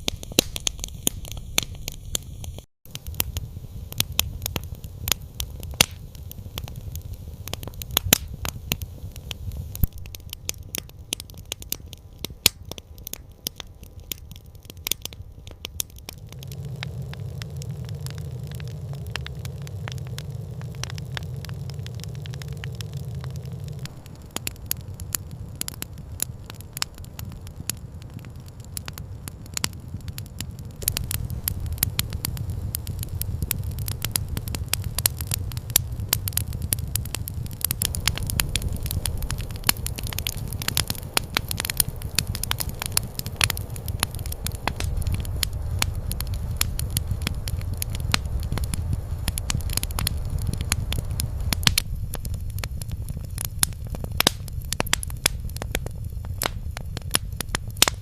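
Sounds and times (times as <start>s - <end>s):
campfire crackling and popping: 0.0s - 58.0s
low steady rumble: 0.1s - 58.0s.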